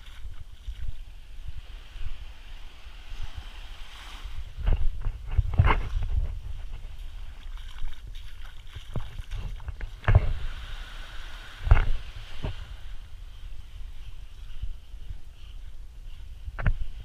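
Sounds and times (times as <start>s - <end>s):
small waves washing on shore: 0.0s - 17.0s
wind buffeting microphone: 0.0s - 17.0s.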